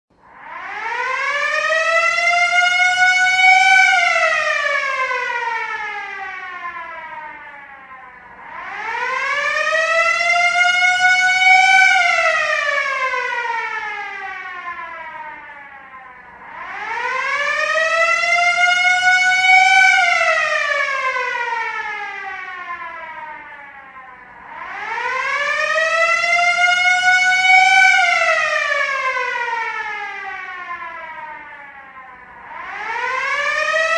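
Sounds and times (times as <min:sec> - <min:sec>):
siren wailing: 0:00.2 - 0:33.9.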